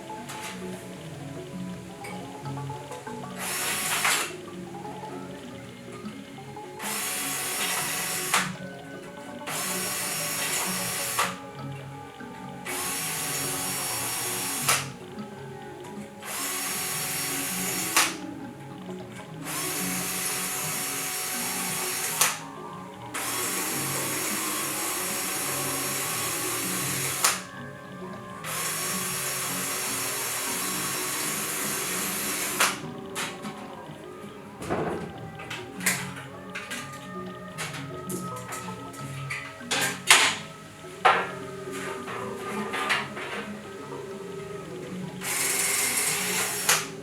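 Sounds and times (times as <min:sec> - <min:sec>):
power drill running: 0:00.0 - 0:34.6, 0:35.2 - 0:47.0
background music: 0:00.0 - 0:47.0.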